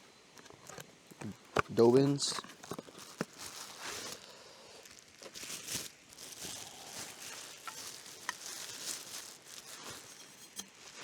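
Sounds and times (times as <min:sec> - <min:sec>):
packaging rustling and crinkling: 0:00.4 - 0:11.0.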